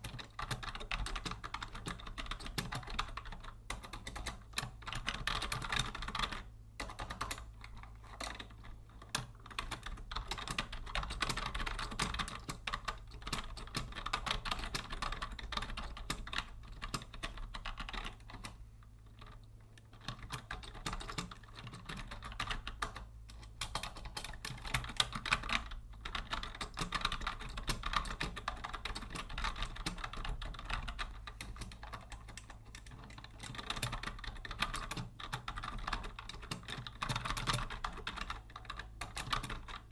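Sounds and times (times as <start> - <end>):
fast typing on keyboard: 0.0 - 39.9
low steady hum: 0.0 - 39.9.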